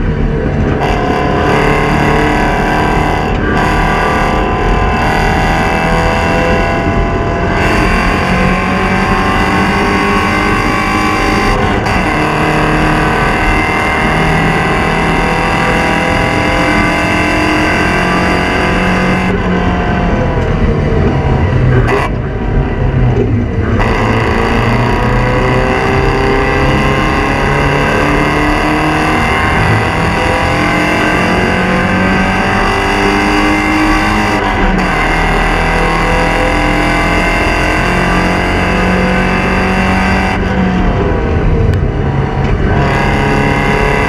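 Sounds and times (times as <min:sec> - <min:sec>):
race car engine revving: 0:00.0 - 0:44.0.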